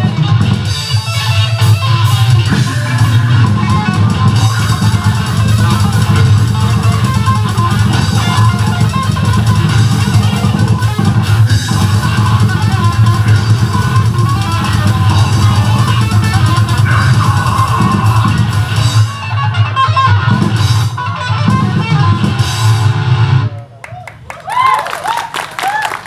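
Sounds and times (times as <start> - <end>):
pounding drum kit: 0.0 - 23.5
heavy metal band playing: 0.0 - 23.6
distorted electric guitar: 0.0 - 23.7.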